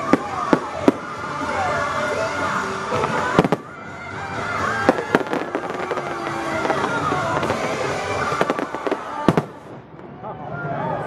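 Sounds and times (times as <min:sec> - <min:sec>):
fireworks bangs and crackle: 0:00.0 - 0:10.1
music soundtrack: 0:00.0 - 0:11.0.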